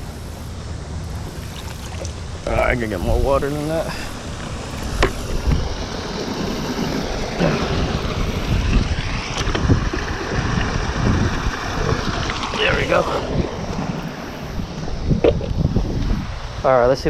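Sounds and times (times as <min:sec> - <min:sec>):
wind buffeting microphone: 0:00.0 - 0:17.0
water sloshing and splashing: 0:00.9 - 0:03.0, 0:03.6 - 0:16.2.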